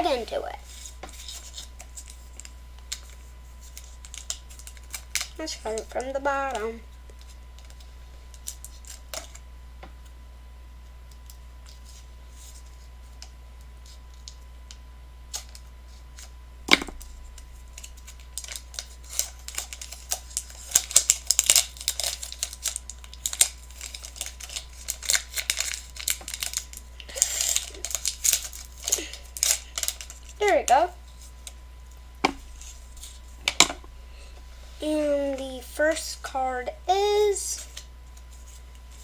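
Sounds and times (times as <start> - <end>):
foil wrapper crinkling: 0.0 - 9.5, 11.0 - 34.0, 37.3 - 39.0.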